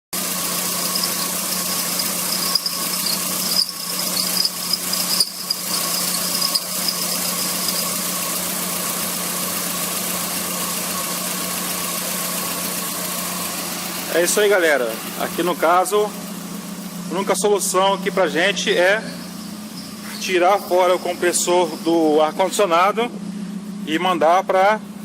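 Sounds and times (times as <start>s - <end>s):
car engine running: 0.1s - 25.0s
compressor squealing: 0.2s - 25.0s.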